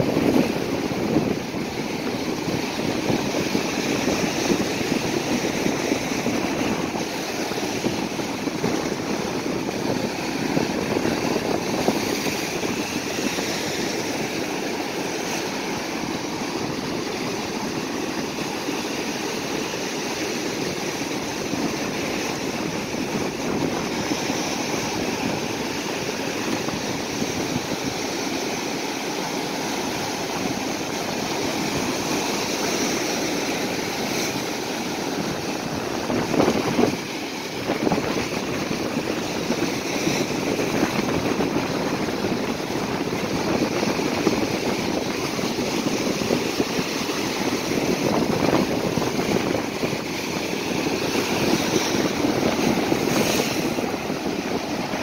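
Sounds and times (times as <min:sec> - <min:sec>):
surf breaking on rocky shore: 0:00.0 - 0:55.0.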